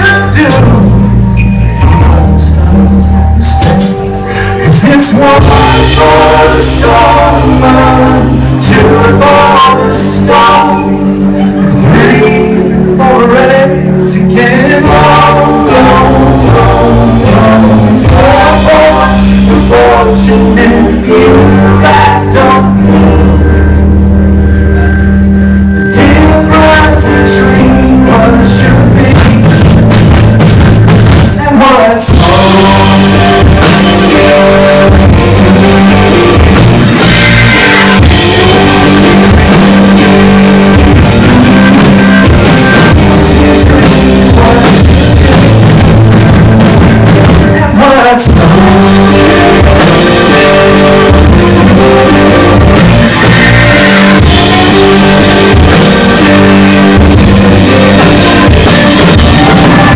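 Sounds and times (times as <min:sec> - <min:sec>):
live folk-rock band playing: 0:00.0 - 0:59.9.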